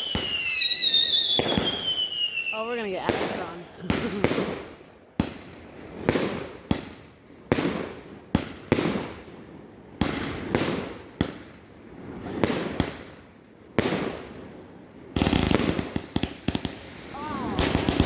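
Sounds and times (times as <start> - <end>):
fireworks bursting with rumbling echo: 0.0 - 18.0.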